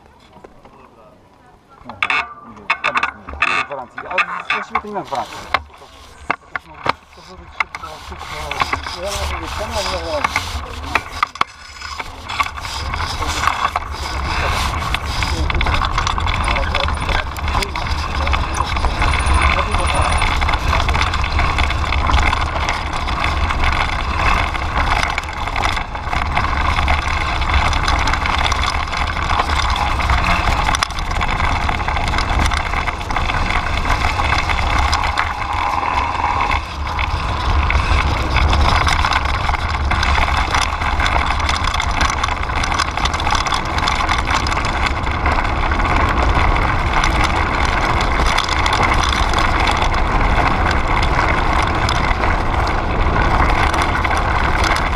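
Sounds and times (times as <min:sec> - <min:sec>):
bike tyres rolling on gravel: 0:00.0 - 0:54.9
wind rumble on microphone: 0:04.6 - 0:54.9.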